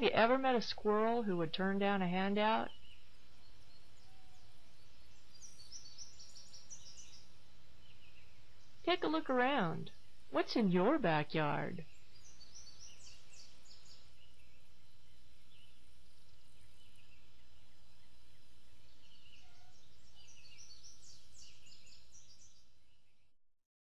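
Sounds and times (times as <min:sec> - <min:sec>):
small birds chirping: 0:00.0 - 0:23.3.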